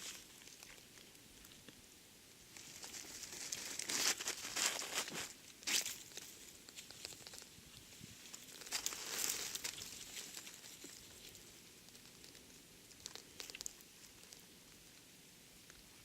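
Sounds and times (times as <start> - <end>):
rustling and crackling: 2.4 - 16.0
small ticks: 2.5 - 16.0.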